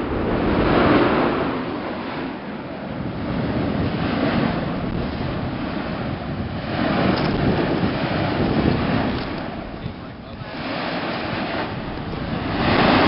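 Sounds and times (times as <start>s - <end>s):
volcano roaring: 0.0s - 13.0s
wind on microphone: 0.0s - 13.0s.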